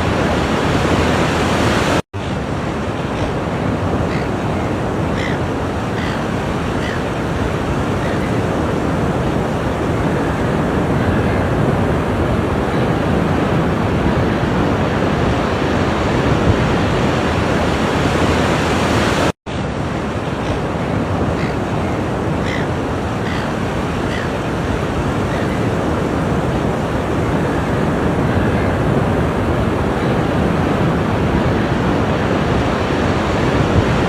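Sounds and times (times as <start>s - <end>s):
ocean surf washing ashore: 0.0s - 34.0s.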